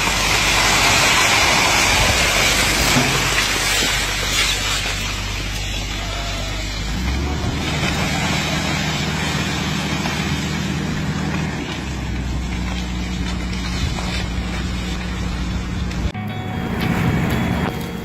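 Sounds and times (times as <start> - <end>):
loud dense rushing noise: 0.0 - 18.0
low engine hum: 0.0 - 18.0.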